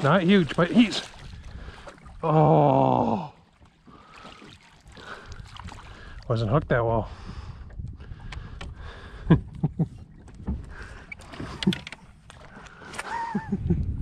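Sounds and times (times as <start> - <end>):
water lapping against boat hull: 0.0 - 14.0.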